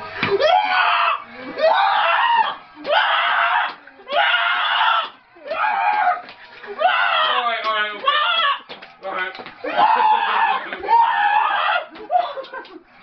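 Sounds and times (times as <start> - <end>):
person screaming: 0.4 - 6.2, 6.8 - 8.6, 9.7 - 12.4.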